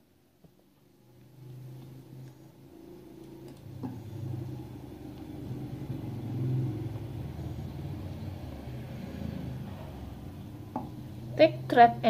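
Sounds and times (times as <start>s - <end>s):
vehicle engine rumbling: 1.6s - 11.8s.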